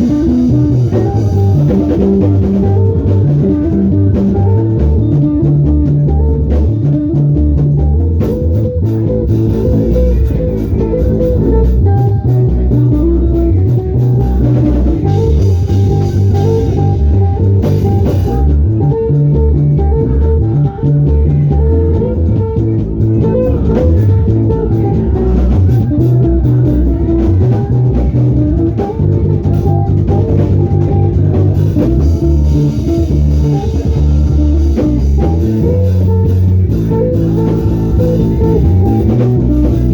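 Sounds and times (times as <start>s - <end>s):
bass guitar: 0.0s - 39.9s
drum kit: 0.0s - 39.9s
instrumental band music: 0.0s - 39.9s.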